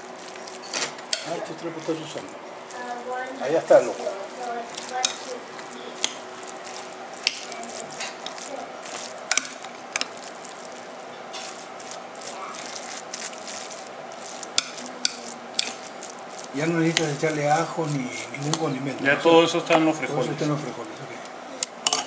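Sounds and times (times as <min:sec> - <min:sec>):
spoon mashing rice and beans: 0:00.0 - 0:19.0.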